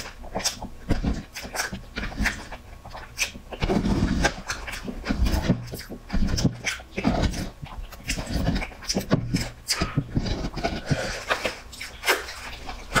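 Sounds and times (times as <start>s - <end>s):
chewing and lip smacks: 0.0s - 13.0s
slurping: 0.0s - 13.0s.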